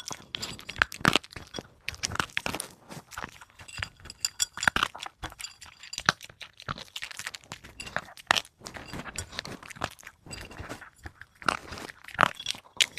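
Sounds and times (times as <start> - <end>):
puppy chewing dry food: 0.0 - 12.9.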